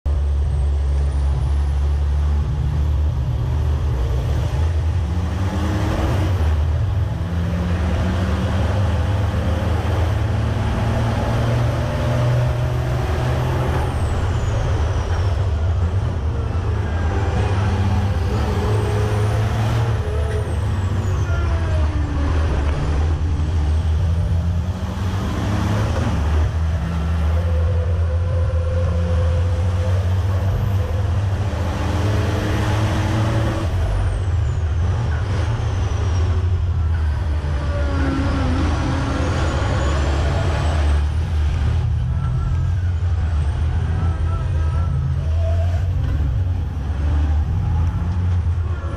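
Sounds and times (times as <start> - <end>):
truck diesel engine revving: 0.1 - 48.9.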